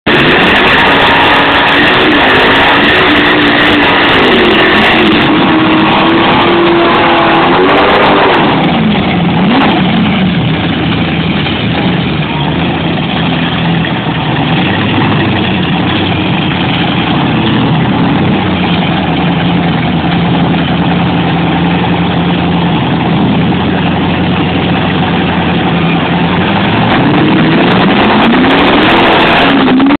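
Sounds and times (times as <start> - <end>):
car engine revving: 0.0 - 30.0
tyre screech: 0.1 - 30.0.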